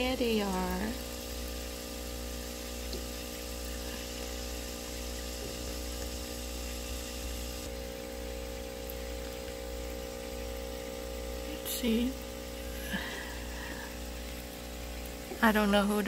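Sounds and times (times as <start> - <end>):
faint water hiss: 0.0 - 15.8
aquarium pump humming: 0.0 - 16.0.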